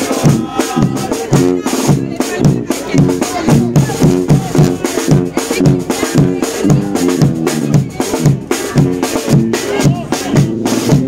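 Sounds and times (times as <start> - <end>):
lively music with drums: 0.0 - 11.0.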